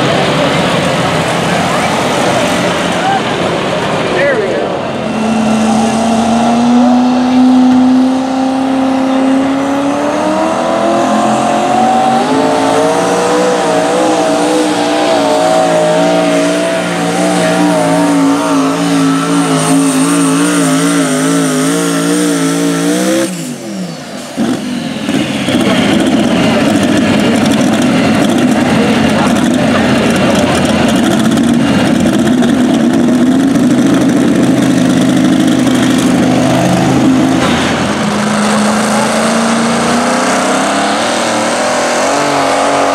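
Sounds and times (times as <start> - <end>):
tractor engine running loud: 0.0 - 42.9.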